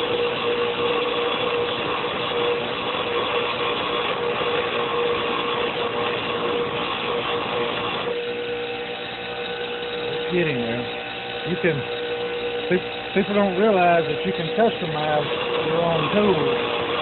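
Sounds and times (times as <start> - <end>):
grinder humming: 0.0 - 17.0
steel grinding against wheel: 0.0 - 17.0.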